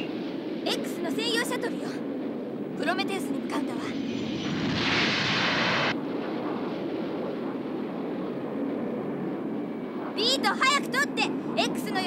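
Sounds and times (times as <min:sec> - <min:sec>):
flying craft engine rumble: 0:00.0 - 0:12.0.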